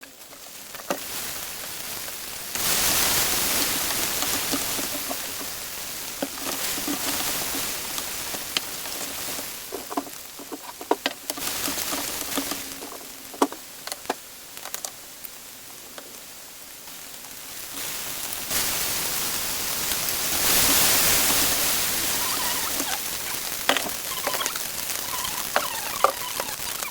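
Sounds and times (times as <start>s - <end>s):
cooking hiss: 0.0s - 26.9s.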